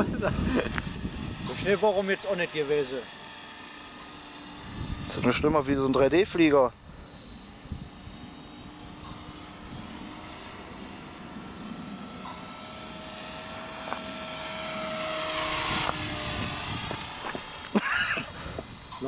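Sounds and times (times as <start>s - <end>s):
rc helicopter motor whine: 0.0s - 19.0s
rotor buzz: 0.0s - 19.0s.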